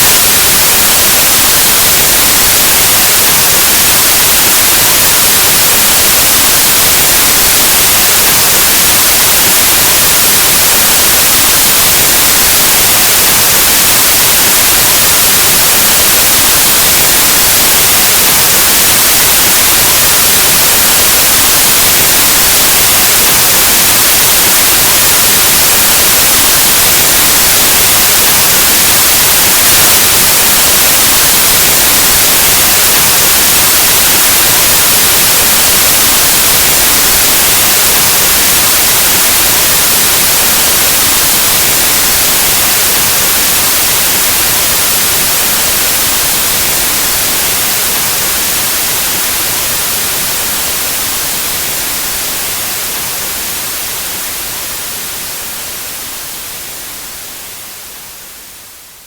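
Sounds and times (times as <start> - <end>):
white noise static hiss: 0.0 - 59.0.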